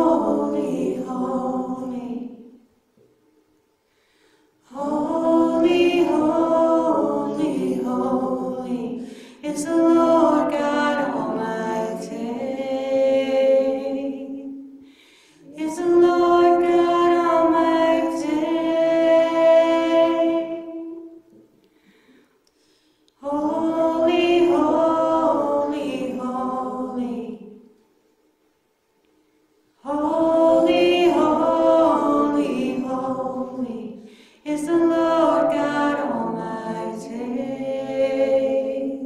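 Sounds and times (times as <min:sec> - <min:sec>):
women singing worship song: 0:00.0 - 0:02.7, 0:04.6 - 0:21.3, 0:23.1 - 0:27.7, 0:29.8 - 0:39.0.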